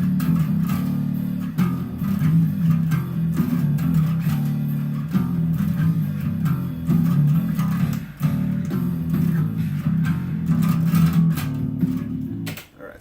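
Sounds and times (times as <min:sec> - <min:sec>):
electric bass guitar riff: 0:00.0 - 0:12.6.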